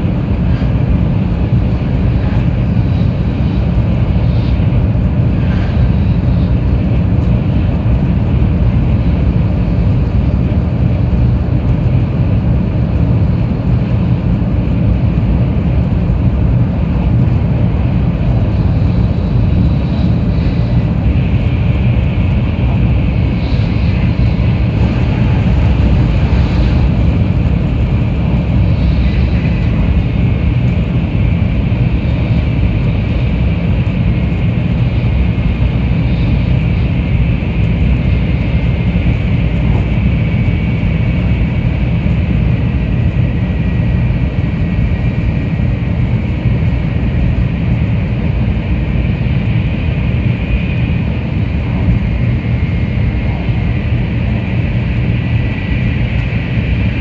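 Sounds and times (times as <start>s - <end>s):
faint high whine: 0.0s - 57.0s
heavy rain on window glass: 0.0s - 57.0s
train wheels and air rumble: 0.0s - 57.0s.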